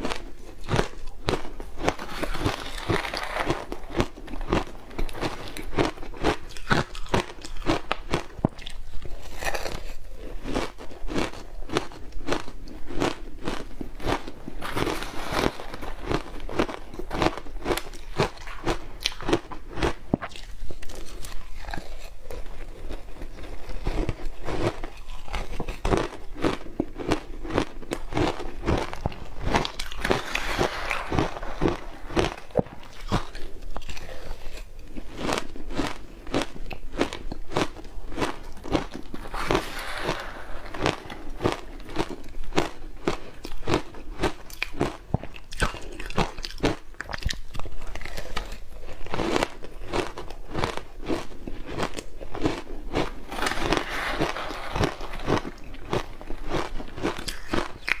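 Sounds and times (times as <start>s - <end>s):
person crunching ice: 0.0s - 58.0s.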